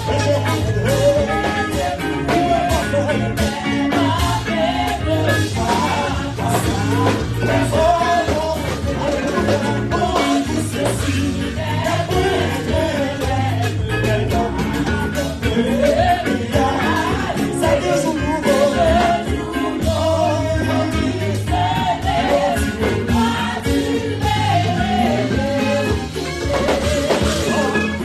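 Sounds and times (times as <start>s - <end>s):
group singing a hymn: 0.0s - 28.0s
live band playing: 0.0s - 28.0s.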